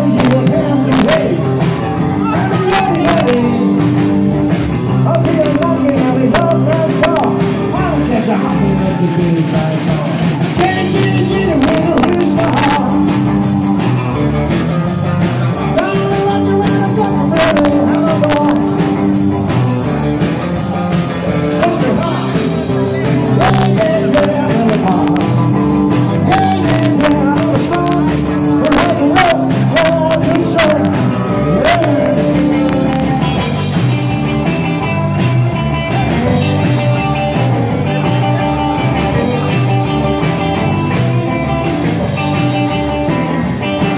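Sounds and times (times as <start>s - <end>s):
person singing: 0.0s - 4.2s, 4.8s - 13.6s, 15.5s - 19.2s, 21.3s - 43.9s
live rock and roll band: 0.0s - 43.9s.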